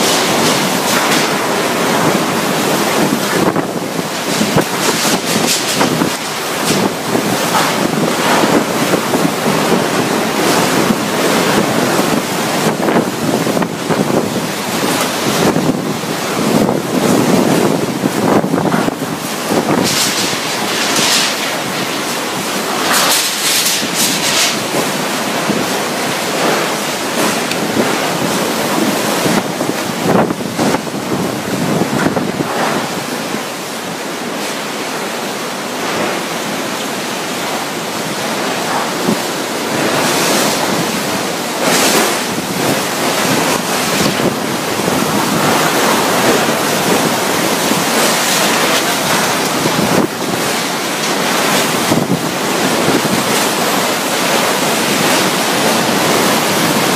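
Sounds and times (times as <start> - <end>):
driving rain: 0.0 - 56.9
strong wind gusting: 0.0 - 56.9.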